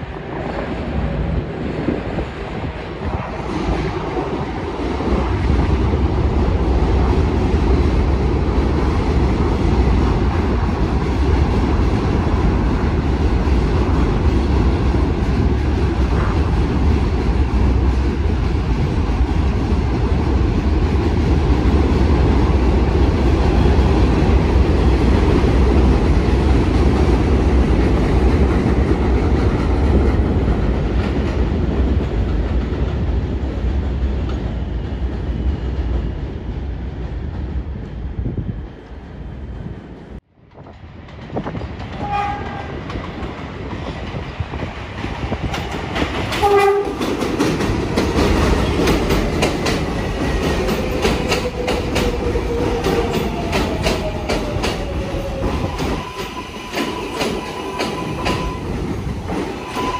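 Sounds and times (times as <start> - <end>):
subway train running on track: 0.0 - 59.9.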